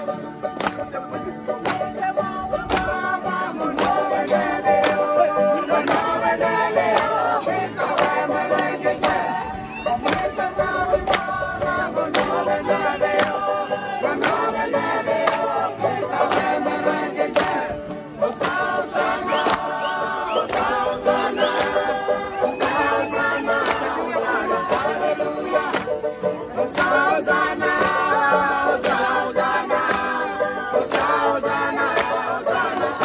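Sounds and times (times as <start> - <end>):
voices singing in harmony: 0.0 - 33.0.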